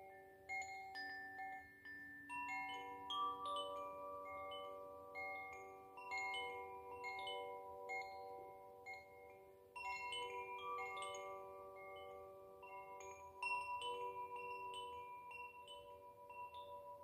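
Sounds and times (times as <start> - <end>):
wind chime ringing: 0.0 - 17.0.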